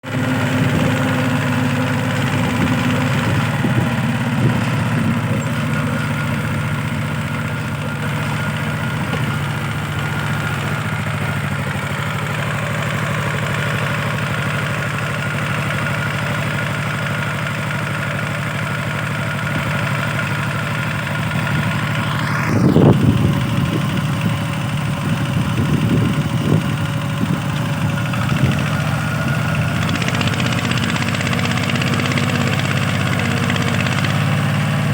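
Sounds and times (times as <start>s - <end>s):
small diesel engine running: 0.0s - 34.9s.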